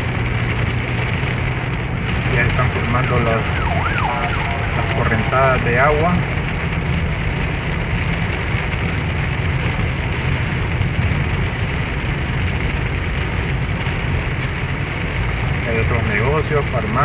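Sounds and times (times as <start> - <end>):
car engine and tyres rumbling: 0.0 - 17.0
heavy rain on car roof: 0.0 - 17.0.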